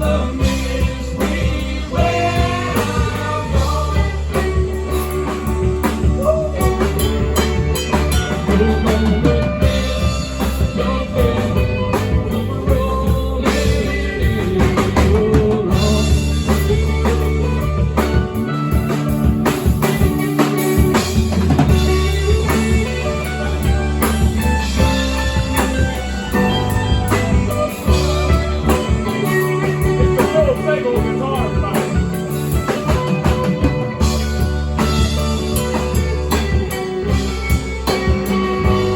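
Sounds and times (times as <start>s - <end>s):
drum kit beat: 0.0s - 38.9s
guitar lines: 0.0s - 38.9s
low bass line: 0.0s - 38.9s.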